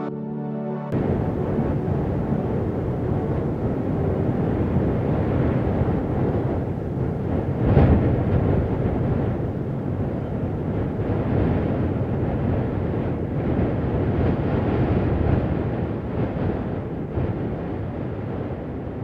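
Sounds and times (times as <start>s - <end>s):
low rushing noise: 0.9s - 19.0s.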